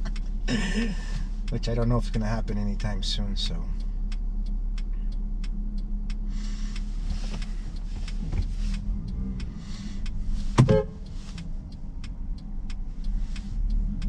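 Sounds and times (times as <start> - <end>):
car engine hum: 0.0 - 14.0
road and traffic hiss: 0.0 - 14.0
faint regular ticks: 1.0 - 14.0.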